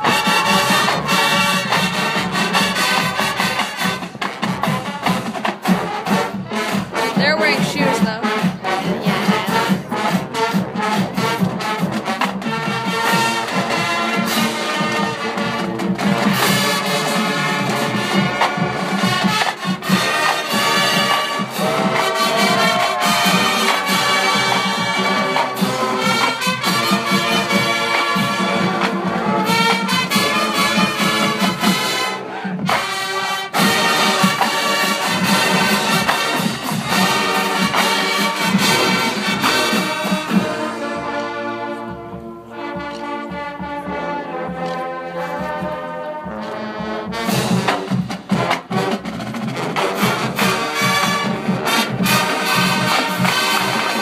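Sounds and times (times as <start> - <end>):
marching band playing: 0.0 - 54.0.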